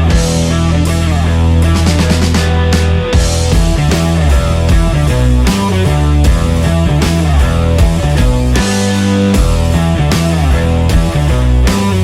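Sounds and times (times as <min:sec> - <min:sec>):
rock music with distorted guitar: 0:00.0 - 0:12.0.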